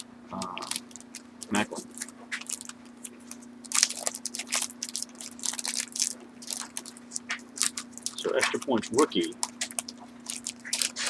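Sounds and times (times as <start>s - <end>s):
cards shuffling and clicking: 0.0s - 11.0s.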